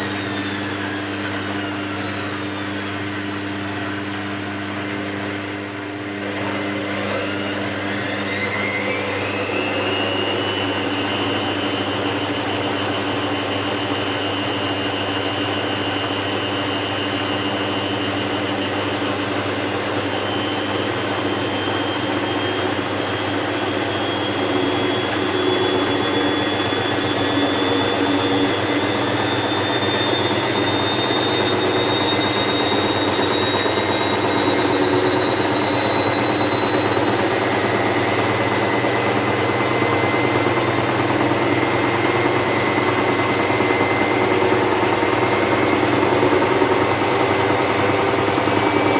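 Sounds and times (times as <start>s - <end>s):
washing machine motor whining: 0.0s - 48.9s.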